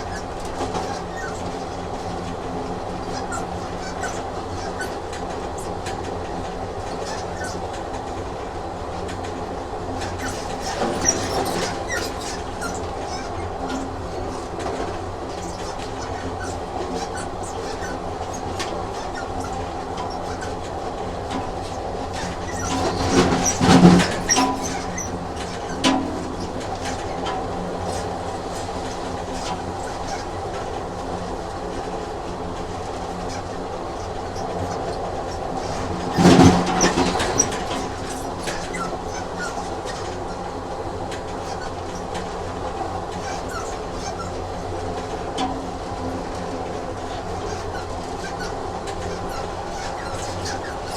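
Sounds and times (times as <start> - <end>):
rail clicks: 0.0 - 50.9
train rumbling on track: 0.0 - 50.9.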